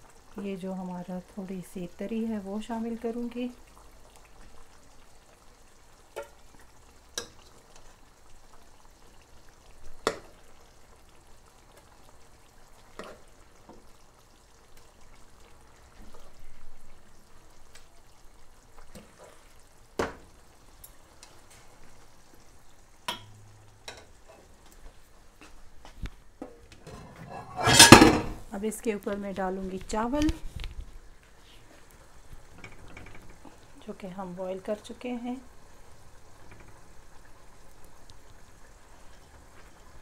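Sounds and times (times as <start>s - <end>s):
curry sizzling quietly: 0.0s - 40.0s.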